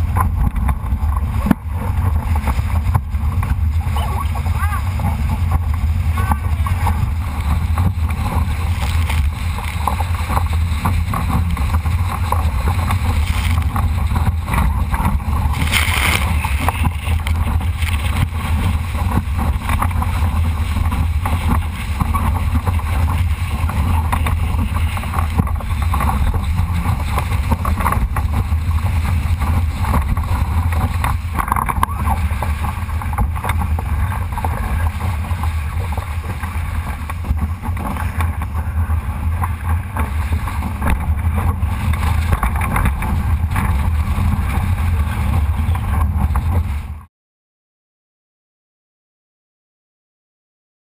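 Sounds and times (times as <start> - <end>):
water rushing along hull: 0.0 - 47.1
wind buffeting microphone: 0.0 - 47.1.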